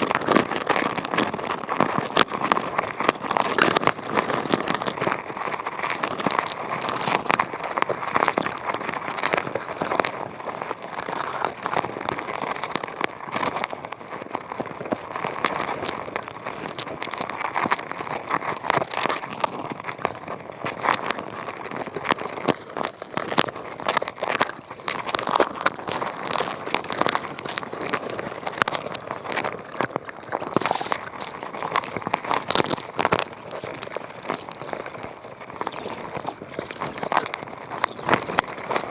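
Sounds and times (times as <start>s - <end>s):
underwater crackling and clicking: 0.0s - 38.9s.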